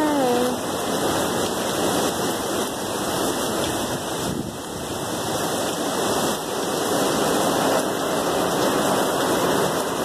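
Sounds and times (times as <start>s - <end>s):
heavy driving rain: 0.0s - 10.0s
wind rushing through trees: 0.0s - 10.0s.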